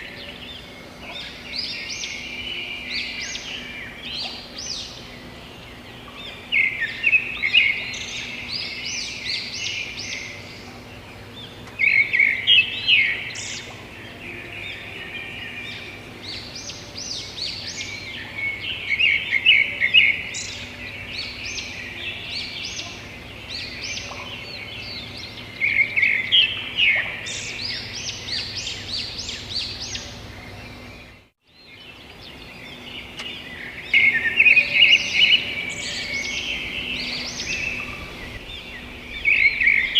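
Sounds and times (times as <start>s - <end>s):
birds chirping: 0.0s - 39.9s
steady background hum: 0.0s - 39.9s.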